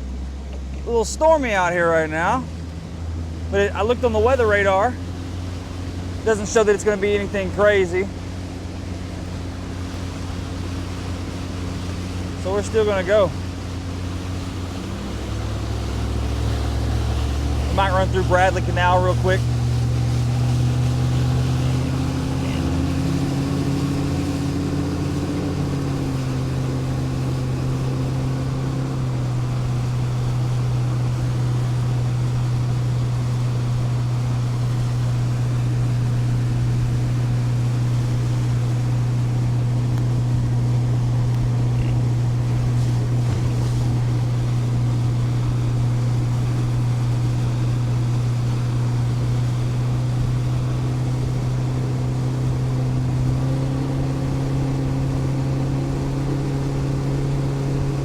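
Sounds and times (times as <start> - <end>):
boat motor droning: 0.0 - 58.0.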